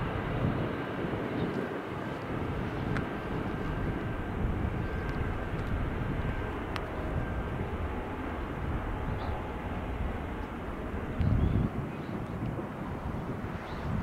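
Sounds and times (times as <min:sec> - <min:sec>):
jet engines rumbling: 0:00.0 - 0:14.0
thin jet whine: 0:00.0 - 0:14.0.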